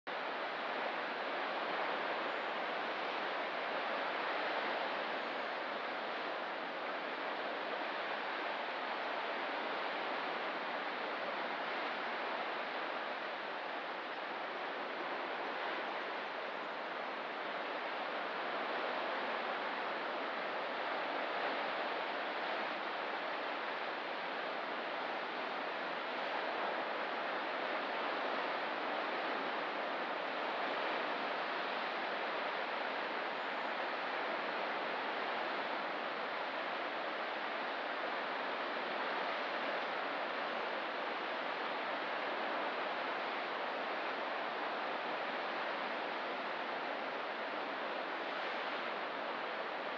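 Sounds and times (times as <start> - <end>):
ocean surf: 0.1 - 49.9.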